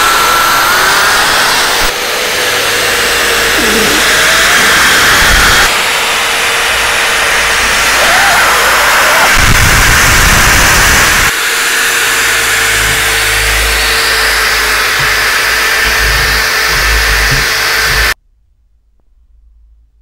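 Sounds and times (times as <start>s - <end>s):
power tool running: 0.0s - 18.2s.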